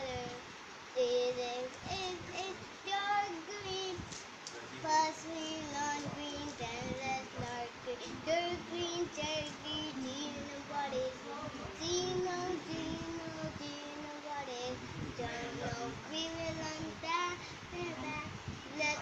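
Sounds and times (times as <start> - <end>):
girl singing: 0.0 - 4.2, 4.8 - 19.0.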